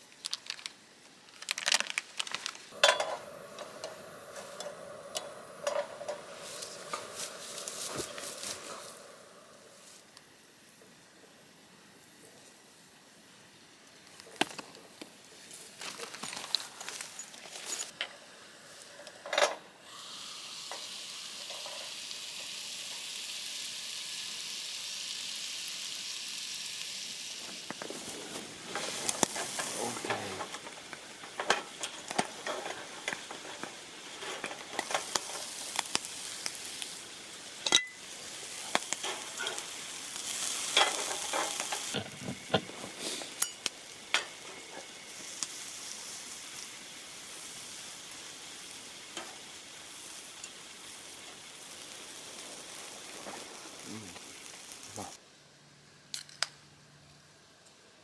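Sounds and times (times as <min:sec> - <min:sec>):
food sizzling in a pan: 0:00.0 - 0:55.2.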